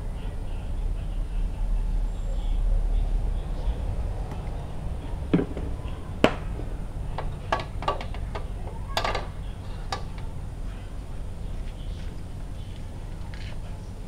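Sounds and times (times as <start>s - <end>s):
gas stove low rumble: 0.0s - 14.0s.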